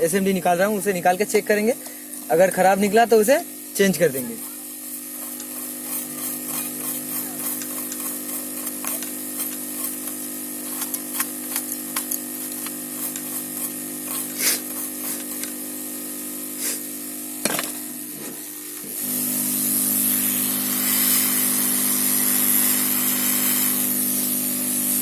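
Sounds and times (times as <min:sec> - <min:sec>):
hot air station hissing: 0:00.0 - 0:25.0
steady hum: 0:00.0 - 0:25.0.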